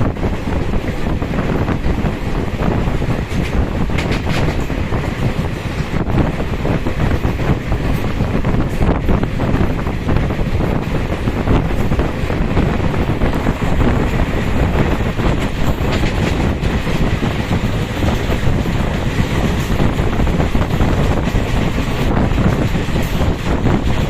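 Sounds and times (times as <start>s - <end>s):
train rumbling and rattling: 0.0s - 24.0s
wind buffeting microphone: 0.0s - 24.0s.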